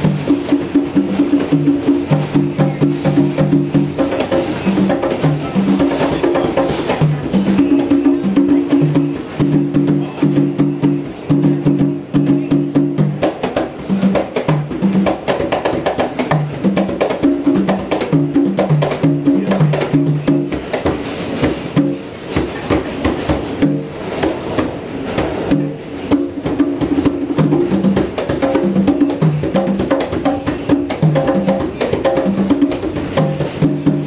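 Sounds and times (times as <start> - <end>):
hand drums playing: 0.0 - 34.0.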